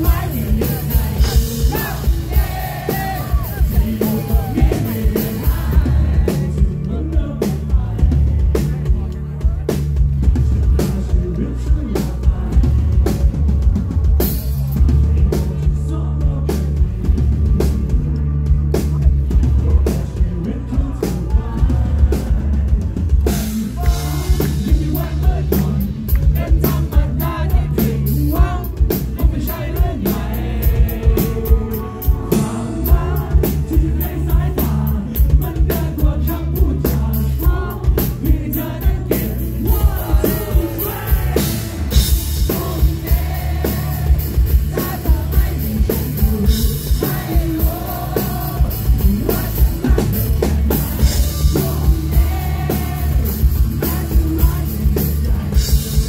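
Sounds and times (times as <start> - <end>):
drum kit beat: 0.0 - 56.0
live rock band: 0.0 - 56.0
male lead vocal: 0.0 - 56.0.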